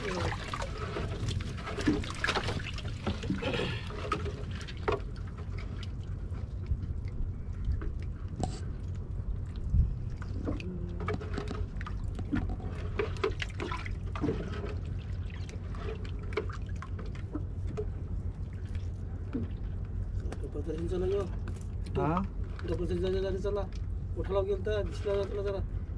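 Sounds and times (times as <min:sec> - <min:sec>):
small splashes and knocks: 0:00.0 - 0:23.9
steady low rumble: 0:00.0 - 0:25.9.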